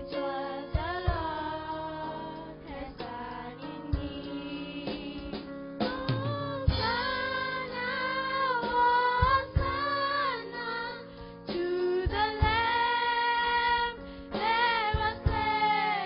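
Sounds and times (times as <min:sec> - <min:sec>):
girls singing gospel song: 0:00.0 - 0:16.0
instrumental accompaniment: 0:00.0 - 0:16.0.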